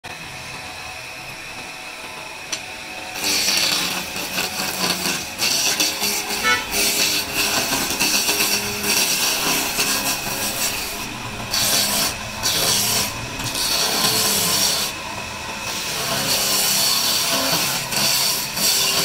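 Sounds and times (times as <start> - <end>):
chisel cutting wood on lathe: 1.5 - 19.0.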